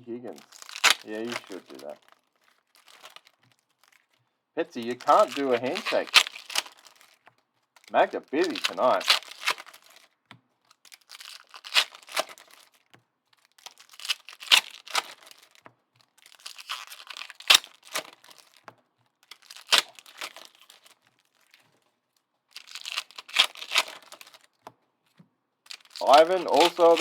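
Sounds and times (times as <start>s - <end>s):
foil wrappers tearing and crinkling: 0.2s - 18.6s, 19.2s - 21.7s, 22.5s - 24.6s, 25.7s - 27.0s.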